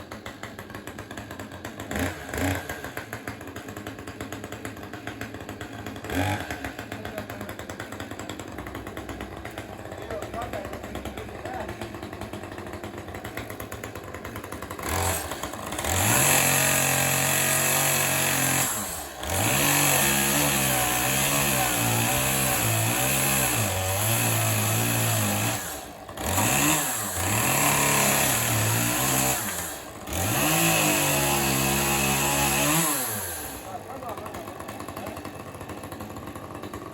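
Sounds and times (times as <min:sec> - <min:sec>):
chainsaw revving and idling: 0:00.0 - 0:36.9.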